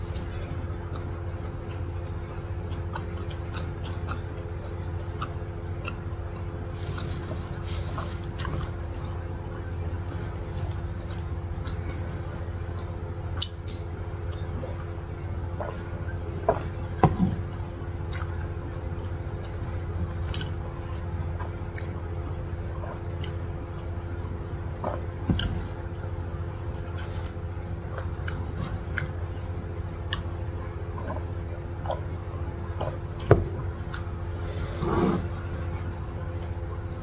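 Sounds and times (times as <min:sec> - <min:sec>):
mouth and chewing sounds: 0:00.0 - 0:24.0, 0:26.7 - 0:36.6
low hum: 0:00.0 - 0:37.0.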